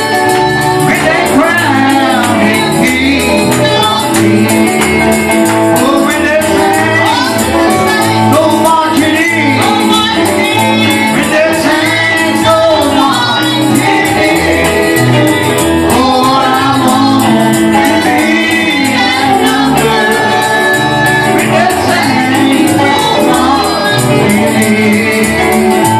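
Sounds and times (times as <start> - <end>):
bass line: 0.0 - 25.9
fast percussion beat: 0.0 - 25.9
live gospel music: 0.0 - 25.9
person singing: 0.0 - 25.9.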